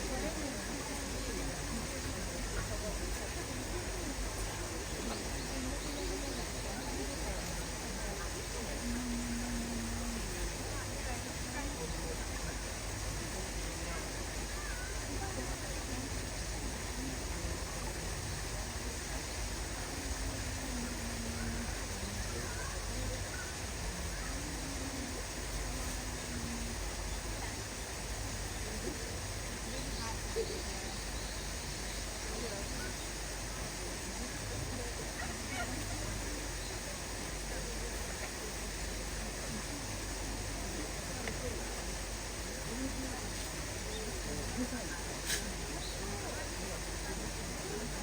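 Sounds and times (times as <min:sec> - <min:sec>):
faint distant voices: 0:00.0 - 0:48.0
outdoor background hiss: 0:00.0 - 0:48.0
steady background noise: 0:00.0 - 0:48.0.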